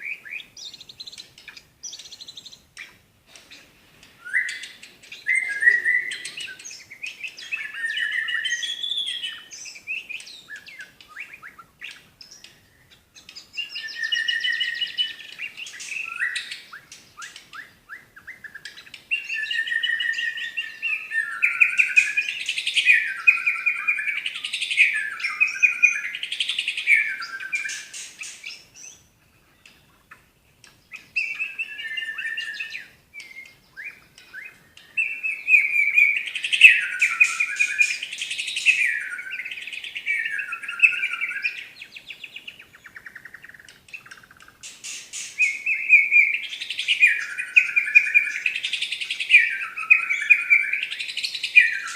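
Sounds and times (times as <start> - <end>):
bird singing whistled phrases: 0.0 - 3.0, 4.2 - 29.7, 30.9 - 51.9.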